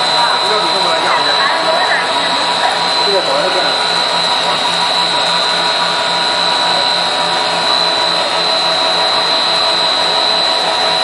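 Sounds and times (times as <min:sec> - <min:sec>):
food processing machinery running: 0:00.0 - 0:11.0.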